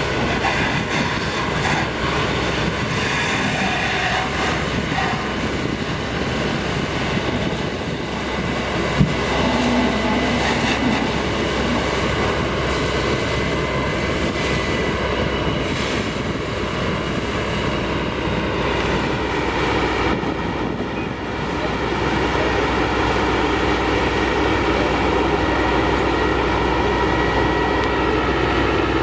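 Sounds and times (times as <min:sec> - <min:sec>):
heavy machinery running: 0:00.0 - 0:29.0.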